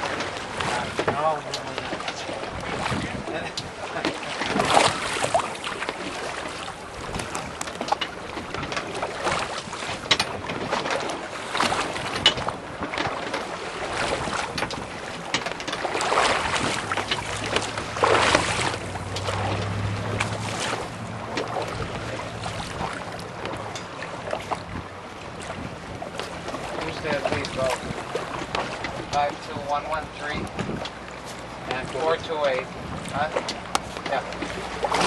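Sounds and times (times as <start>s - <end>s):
water splashing against hull: 0.0s - 35.0s
wind buffeting microphone: 0.0s - 35.0s.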